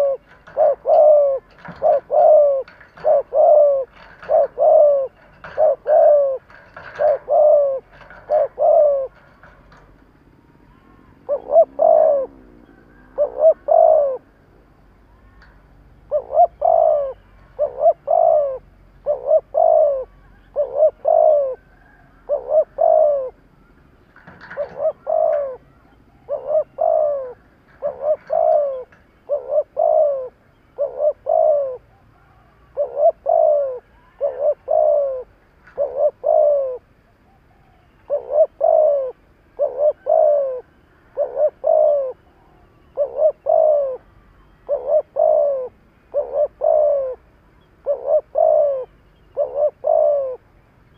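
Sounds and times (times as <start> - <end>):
dove cooing: 0.0 - 14.7, 15.3 - 50.5.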